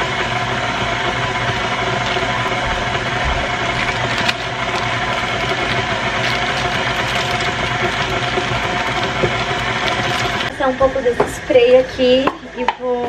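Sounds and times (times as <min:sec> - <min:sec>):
electric mixer humming: 0:00.0 - 0:10.9.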